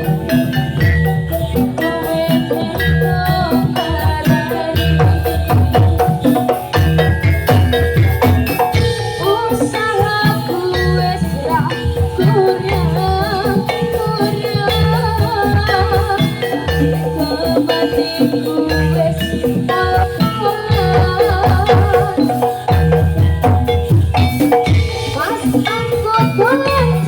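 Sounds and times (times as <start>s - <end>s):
deep drum beats: 0.0s - 27.0s
gamelan music over sound system: 0.0s - 27.0s.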